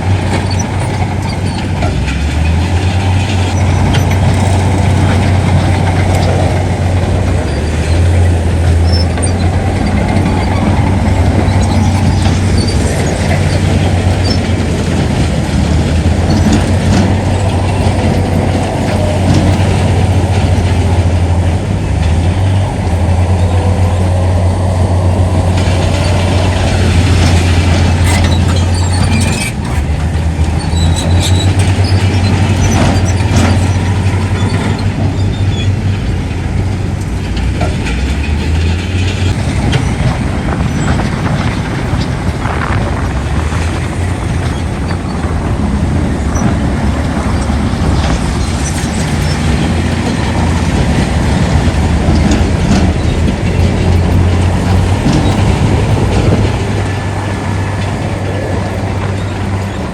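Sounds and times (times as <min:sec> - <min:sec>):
diesel engine drone: 0:00.0 - 0:59.9
metallic clanks and clicks: 0:00.0 - 0:59.9.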